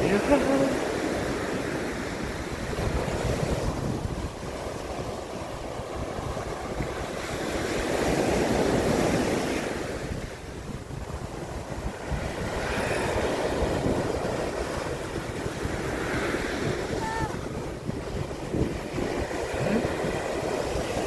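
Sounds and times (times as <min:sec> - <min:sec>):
sea waves breaking on shore: 0:00.0 - 0:21.0
wind buffeting microphone: 0:00.0 - 0:21.0.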